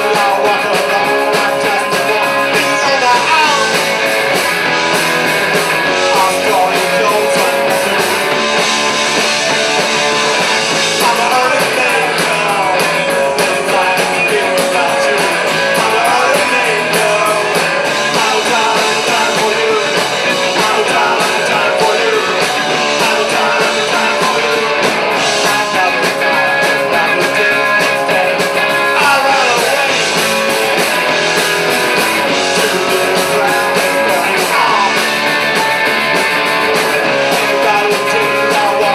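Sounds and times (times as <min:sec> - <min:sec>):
distorted electric guitars: 0:00.0 - 0:38.9
drum kit: 0:00.0 - 0:38.9.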